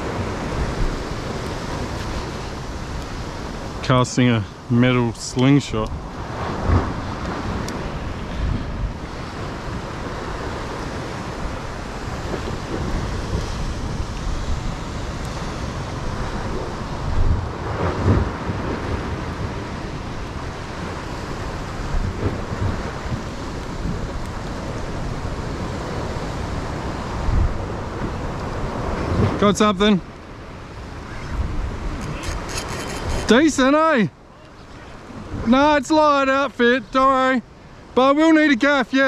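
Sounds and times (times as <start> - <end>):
wind rumbling on microphone: 0.0 - 36.2
ocean surf on rocks: 0.0 - 39.0.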